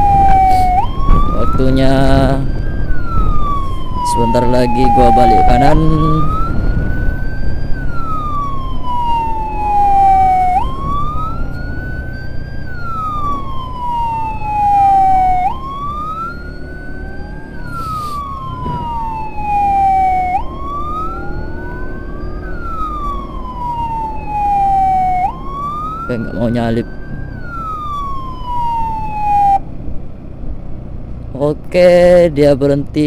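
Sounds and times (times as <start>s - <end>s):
emergency siren wailing: 0.0s - 30.1s
low road rumble: 0.0s - 33.0s.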